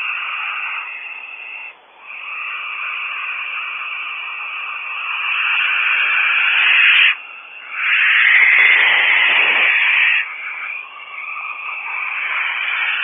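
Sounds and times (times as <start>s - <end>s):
barn owl hissing screeches: 0.0s - 13.0s.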